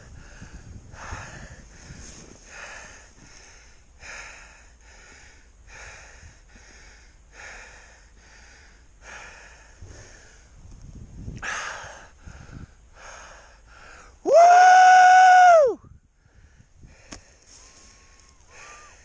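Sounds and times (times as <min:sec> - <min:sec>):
person breathing hard: 0:00.0 - 0:10.6, 0:11.4 - 0:14.2, 0:16.1 - 0:19.0.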